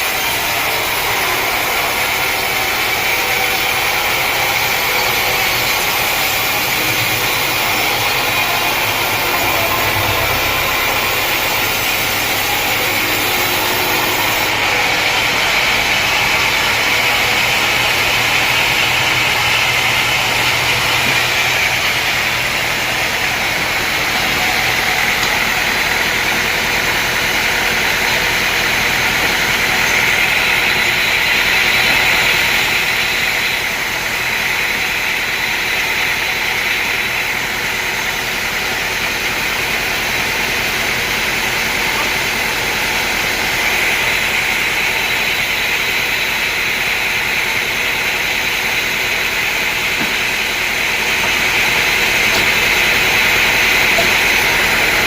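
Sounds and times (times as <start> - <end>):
sawmill machine running: 0.0 - 55.0.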